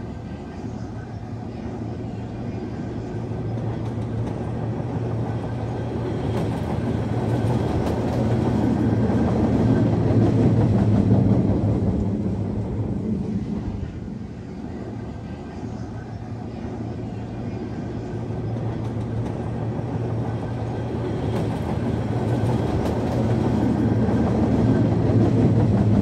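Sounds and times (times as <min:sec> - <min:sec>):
freight train rolling on rails: 0:00.0 - 0:26.0.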